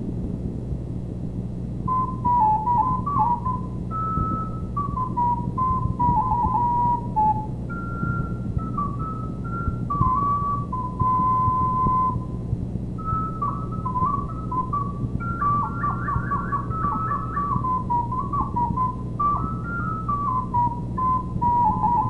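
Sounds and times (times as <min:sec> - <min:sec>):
steady low hum: 0:00.0 - 0:22.0
recorder playing high melody: 0:01.9 - 0:12.4, 0:13.0 - 0:22.0.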